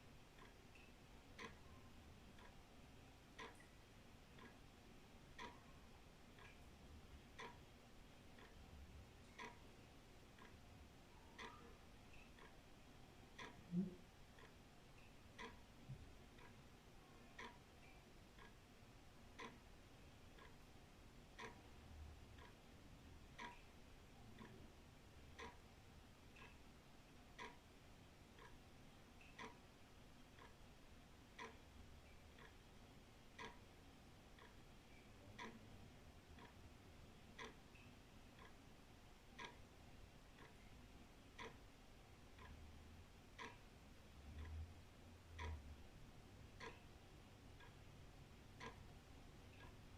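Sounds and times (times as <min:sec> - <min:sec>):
wall clock ticking: 0:00.0 - 0:49.9.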